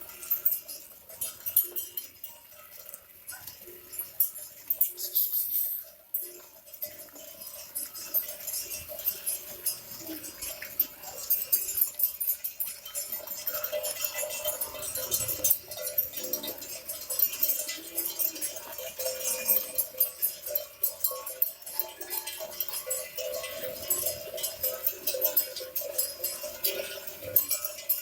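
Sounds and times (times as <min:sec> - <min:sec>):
cattle bells clinking and jangling: 0:00.0 - 0:28.0.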